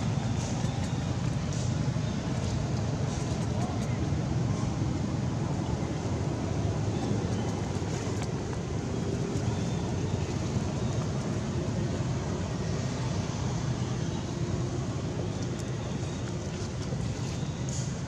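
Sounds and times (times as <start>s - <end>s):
low rumbling outdoor noise: 0.0s - 18.0s.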